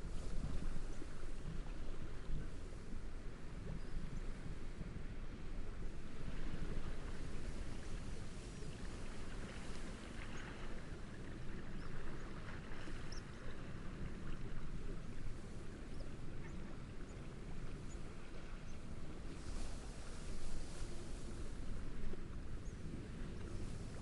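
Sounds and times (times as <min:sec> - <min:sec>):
gentle lapping waves: 0:00.0 - 0:24.0
steady wind: 0:00.0 - 0:24.0.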